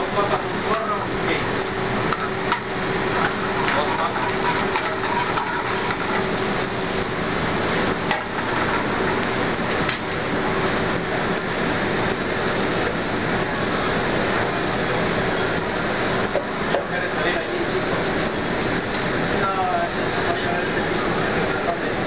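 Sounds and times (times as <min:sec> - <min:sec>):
food sizzling in a frying pan: 0:00.0 - 0:21.9.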